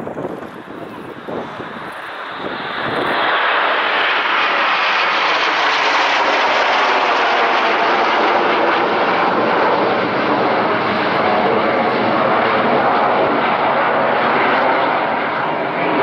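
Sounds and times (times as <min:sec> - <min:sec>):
jet aircraft engine roar: 0:00.0 - 0:16.0.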